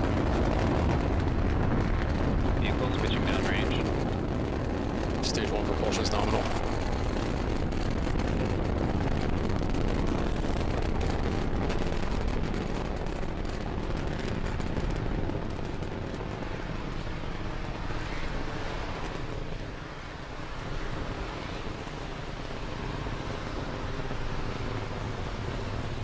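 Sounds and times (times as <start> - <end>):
rocket engines rumbling and crackling: 0.0 - 26.0.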